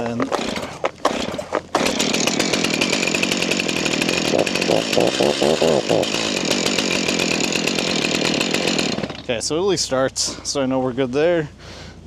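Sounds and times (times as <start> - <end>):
chainsaw idling and revving: 0.0 - 10.7.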